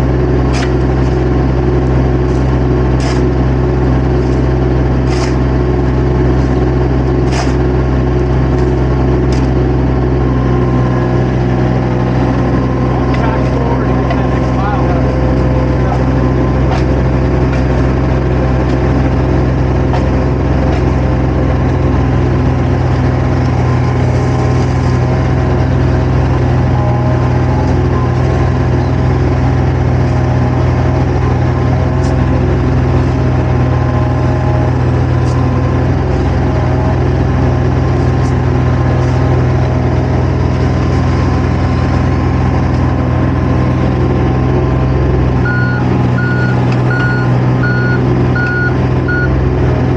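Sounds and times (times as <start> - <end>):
diesel engine humming: 0.0 - 49.9.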